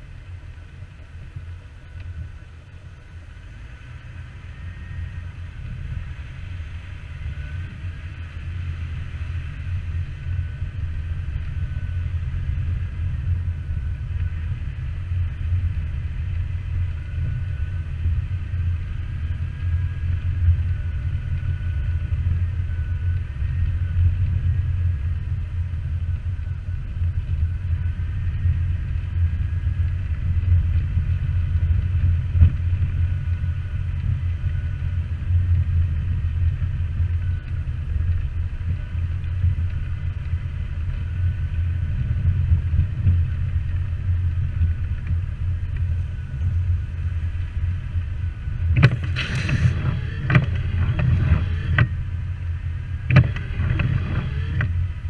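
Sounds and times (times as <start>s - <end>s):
faint high whine: 0.0s - 55.0s
vehicle engine rumble: 0.0s - 55.0s.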